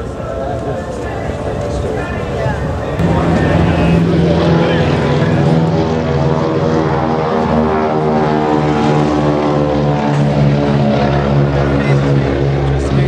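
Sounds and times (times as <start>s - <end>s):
propeller aircraft engine running: 0.0s - 13.0s.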